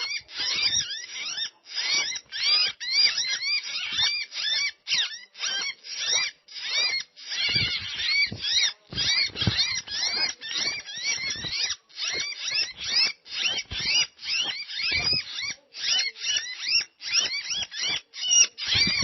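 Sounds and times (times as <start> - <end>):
birds chirping rapidly: 0.0 - 19.0.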